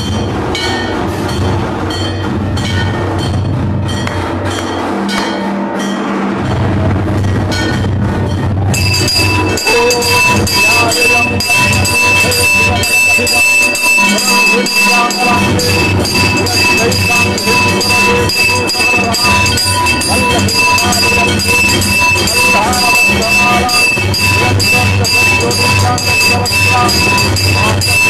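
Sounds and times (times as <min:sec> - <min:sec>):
drums and cymbals: 0:00.0 - 0:28.0
metal bells ringing: 0:00.0 - 0:28.0.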